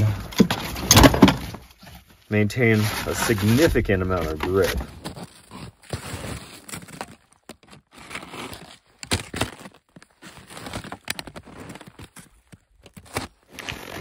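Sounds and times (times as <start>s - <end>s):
snow crunching under boots: 2.6s - 14.0s.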